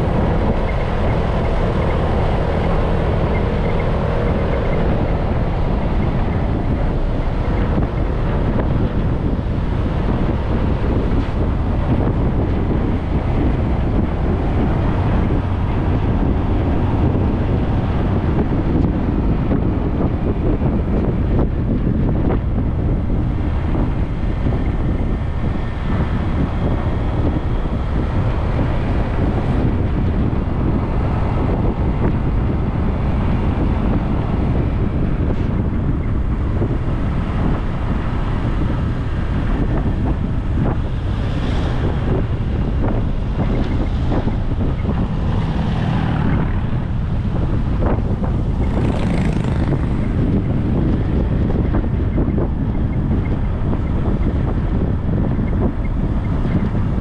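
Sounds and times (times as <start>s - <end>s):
low rumble: 0.0s - 57.0s
wind buffeting microphone: 0.0s - 57.0s.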